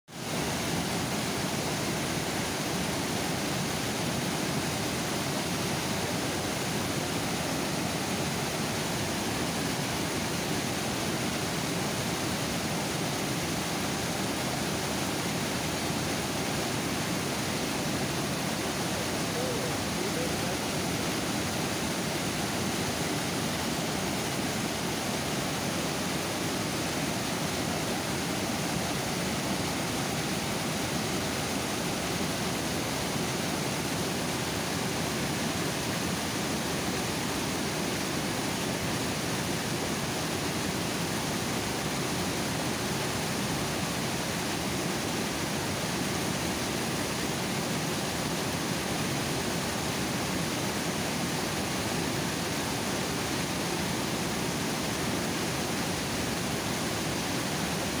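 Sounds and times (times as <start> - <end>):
water overflowing a dam: 0.1 - 58.0.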